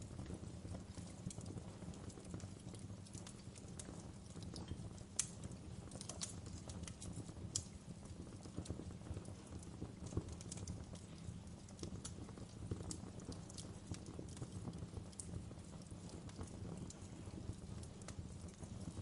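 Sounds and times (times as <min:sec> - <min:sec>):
low rumble of burning fire: 0:00.0 - 0:19.0
wood fire crackling: 0:00.0 - 0:19.0.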